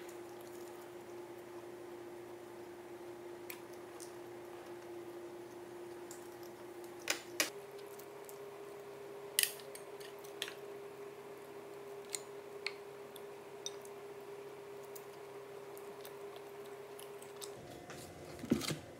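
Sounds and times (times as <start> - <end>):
background hum: 0.0 - 18.9.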